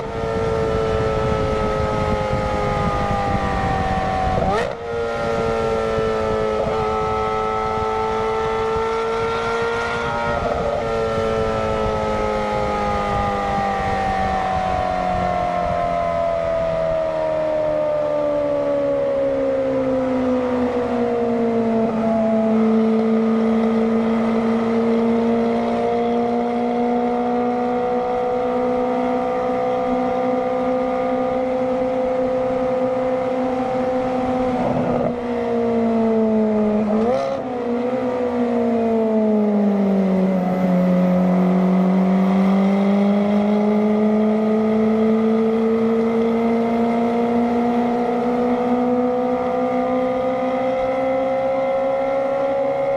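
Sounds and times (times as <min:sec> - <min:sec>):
sports car engine howling: 0:00.0 - 0:52.9.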